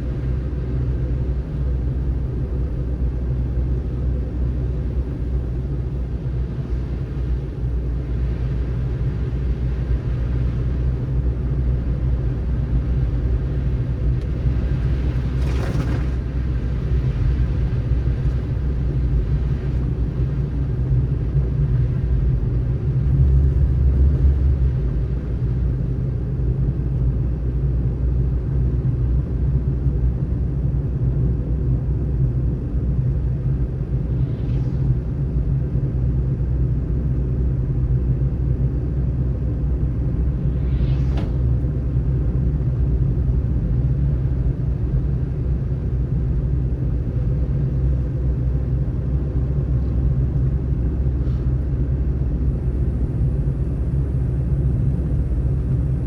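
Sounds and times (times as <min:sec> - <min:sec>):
car driving on snowy road: 0:00.0 - 0:56.0.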